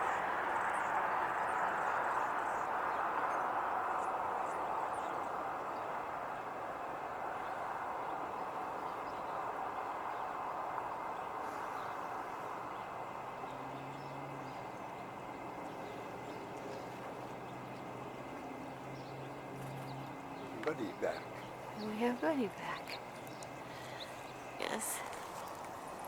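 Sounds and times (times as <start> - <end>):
hum of vehicle noise: 0.0 - 26.0
low engine drone: 0.0 - 26.0.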